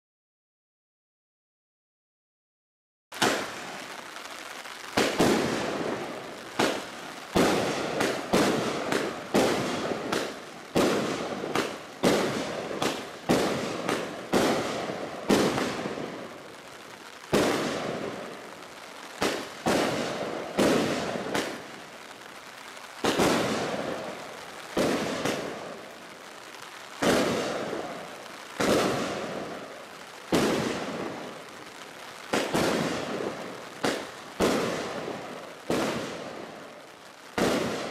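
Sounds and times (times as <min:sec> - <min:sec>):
firework shots: 0:03.1 - 0:37.9.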